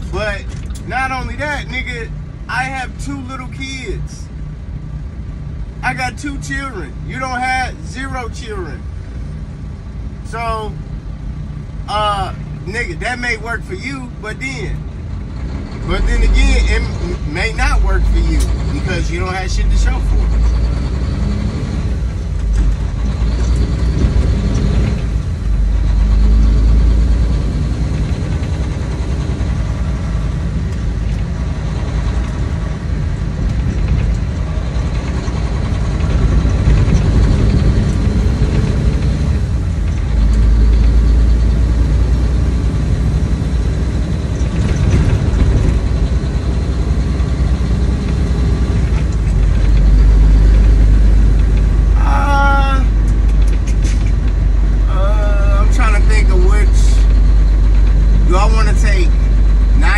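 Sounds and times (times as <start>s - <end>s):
road noise: 0.0s - 59.9s
truck engine rumble: 0.0s - 59.9s.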